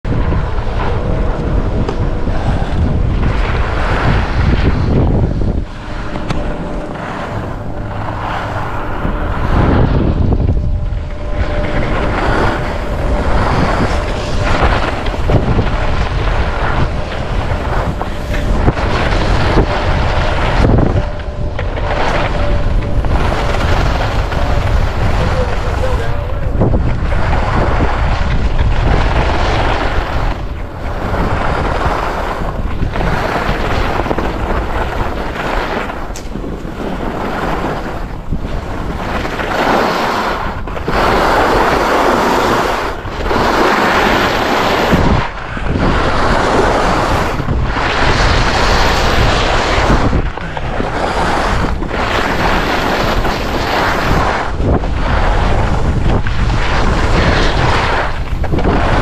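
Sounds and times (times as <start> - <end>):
wind on microphone: 0.0 - 59.0
skis scraping on hard snow: 0.1 - 59.0.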